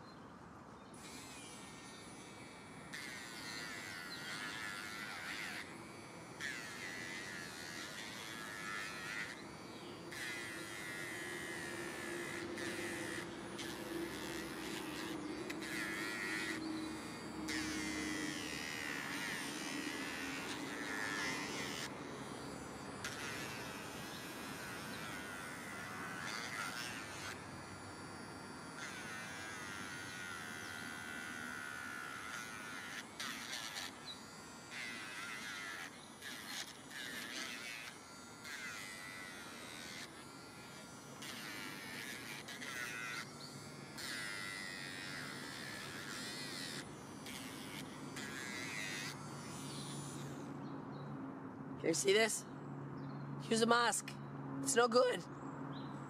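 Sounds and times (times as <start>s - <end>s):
electric nail grinder buzzing: 0.9s - 52.4s, 53.5s - 54.1s.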